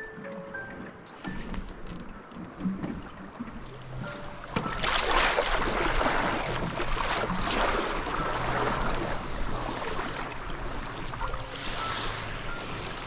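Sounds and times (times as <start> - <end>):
water splashing along boat hull: 0.0 - 13.0.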